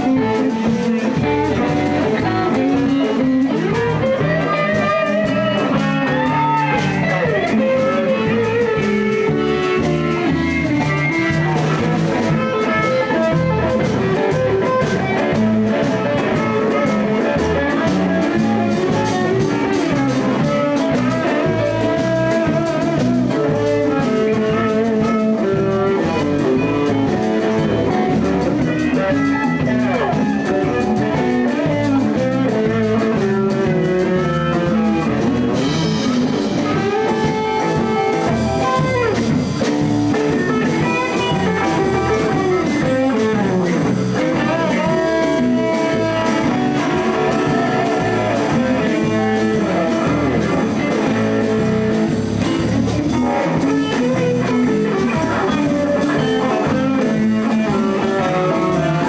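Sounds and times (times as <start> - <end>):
backing guitar: 0.0 - 59.0
drum and bass groove: 0.0 - 59.0
lead guitar bending notes: 0.0 - 59.0.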